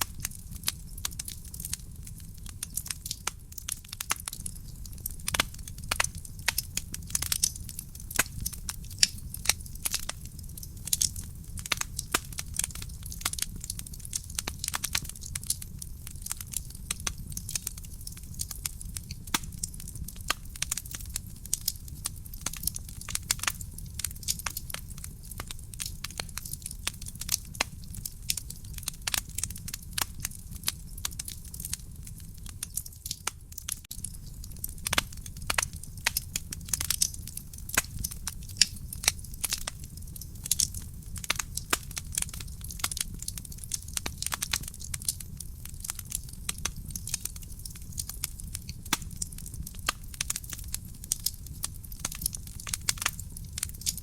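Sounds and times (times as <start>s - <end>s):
fire crackling and popping: 0.0s - 54.0s
flames rumbling: 0.0s - 54.0s.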